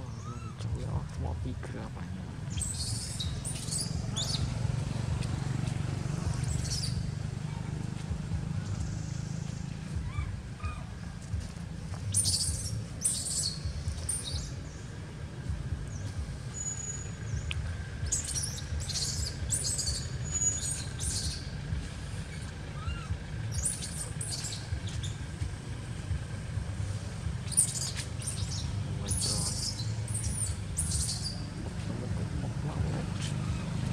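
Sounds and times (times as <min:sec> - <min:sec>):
birds chirping: 0:00.0 - 0:33.9
steady low rumble: 0:00.0 - 0:33.9.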